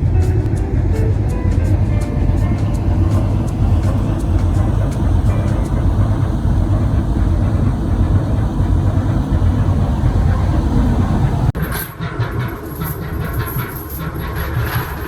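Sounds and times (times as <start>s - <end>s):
marine diesel engine rumbling: 0.0s - 15.0s.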